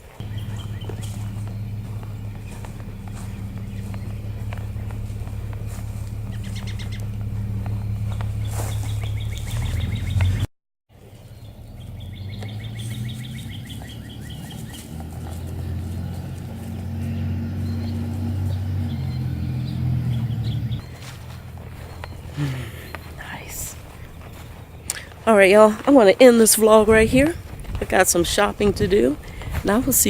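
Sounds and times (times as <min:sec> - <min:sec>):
steady low rumble: 0:00.0 - 0:10.5, 0:11.3 - 0:25.3
bird chirping: 0:00.0 - 0:25.6.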